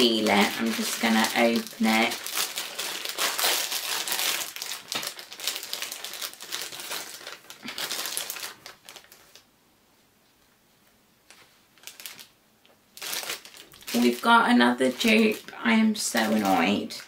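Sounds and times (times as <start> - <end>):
foil wrapper crinkling: 0.0 - 9.5, 11.3 - 12.4, 13.0 - 17.0.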